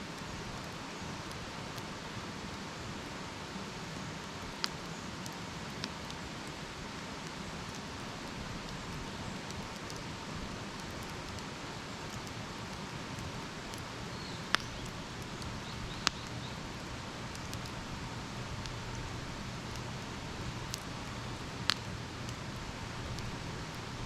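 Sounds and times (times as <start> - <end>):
campfire hissing: 0.0 - 24.0
sharp crackling pops: 4.2 - 24.0.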